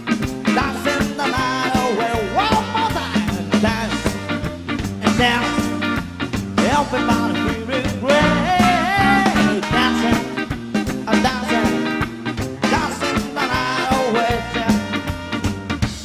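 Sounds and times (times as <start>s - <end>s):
live band playing upbeat song: 0.0s - 16.0s.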